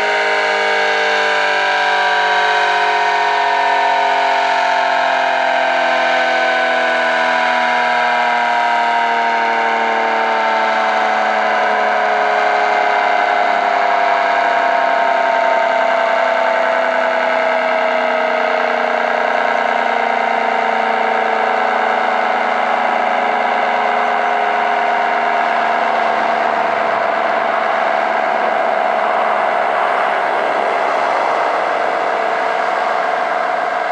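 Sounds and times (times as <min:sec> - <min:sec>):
two-tone warning siren: 0:00.0 - 0:33.9.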